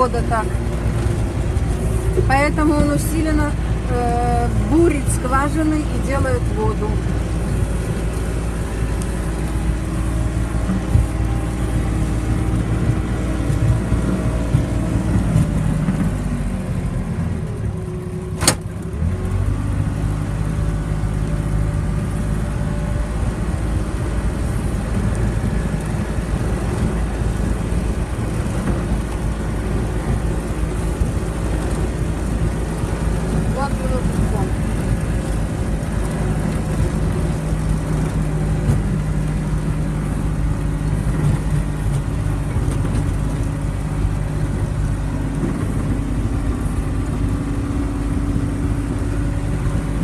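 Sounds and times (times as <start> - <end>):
car engine and road drone: 0.0 - 50.0.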